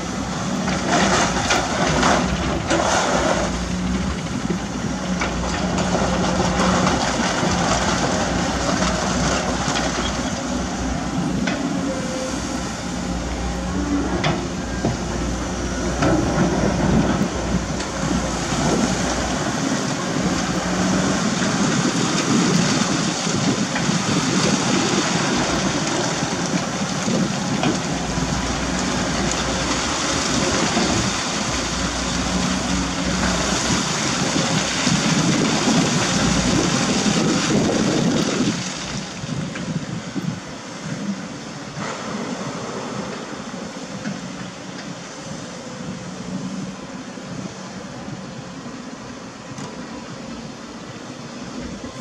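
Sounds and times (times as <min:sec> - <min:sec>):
excavator diesel engine under load: 0:00.0 - 0:52.0
water splashing and sloshing: 0:00.0 - 0:52.0.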